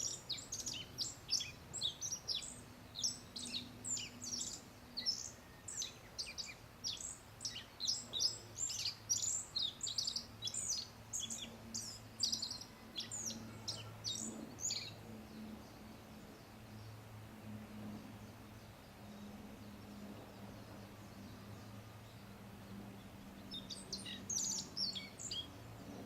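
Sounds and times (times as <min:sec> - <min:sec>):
bunting singing: 0:00.0 - 0:26.0.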